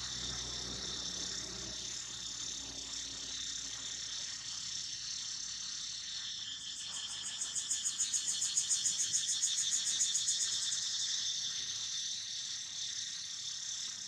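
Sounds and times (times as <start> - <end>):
insects hissing: 0.0 - 14.0
rapidly pulsing insect call: 0.0 - 14.0.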